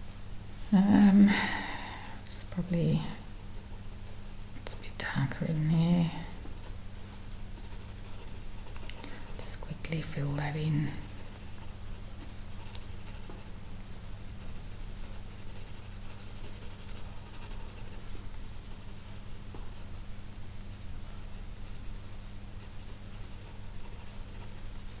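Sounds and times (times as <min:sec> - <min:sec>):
pencil scratching on paper: 0:02.6 - 0:20.0, 0:20.7 - 0:25.0.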